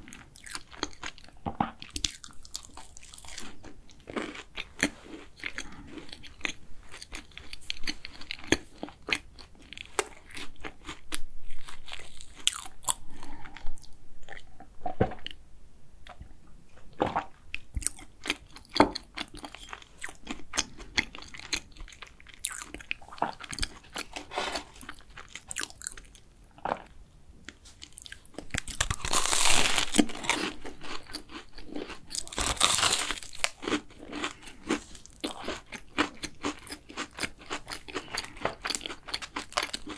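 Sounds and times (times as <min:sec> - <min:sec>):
chewing crunchy pastry: 0:00.0 - 0:15.4, 0:16.9 - 0:39.9.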